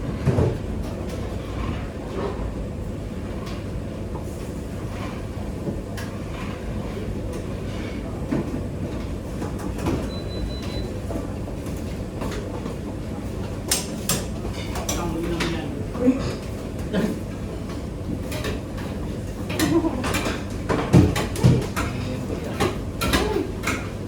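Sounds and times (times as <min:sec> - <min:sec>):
low kitchen rumble: 0:00.0 - 0:24.0.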